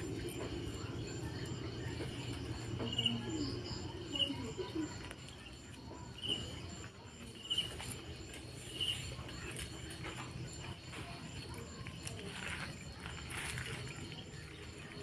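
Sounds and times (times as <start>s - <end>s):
faint high insect trill: 0.0s - 15.0s
insects chirping: 0.0s - 15.0s.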